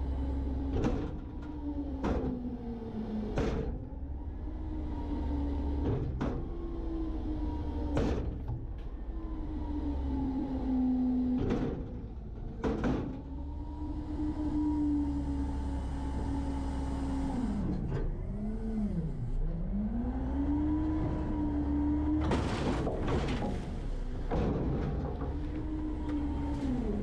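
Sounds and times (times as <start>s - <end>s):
hydraulic packer whining: 4.4s - 27.0s.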